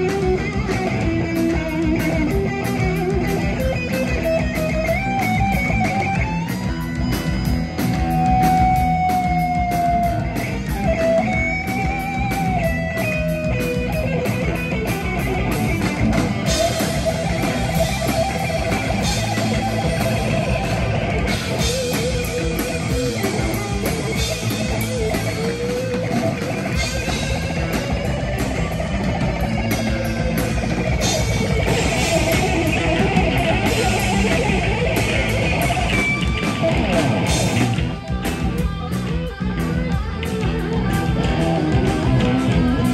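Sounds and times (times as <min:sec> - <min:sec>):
lead guitar bent notes: 0:00.0 - 0:42.9
thrash metal band playing: 0:00.0 - 0:42.9.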